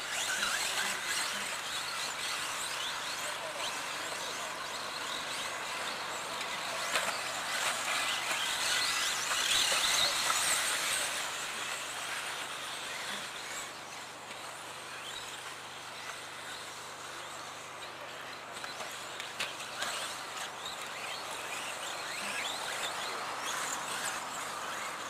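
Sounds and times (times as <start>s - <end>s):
electric toy car motors whining: 0.0s - 25.0s.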